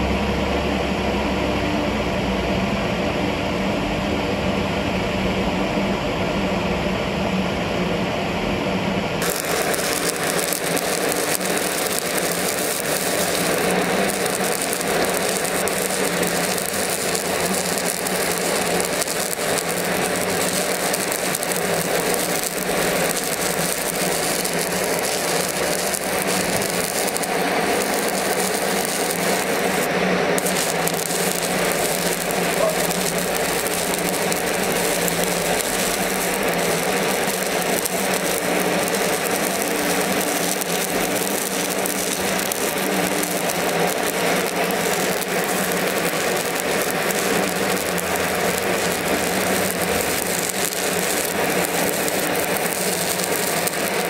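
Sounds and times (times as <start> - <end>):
welding arc crackling: 9.2 - 54.0.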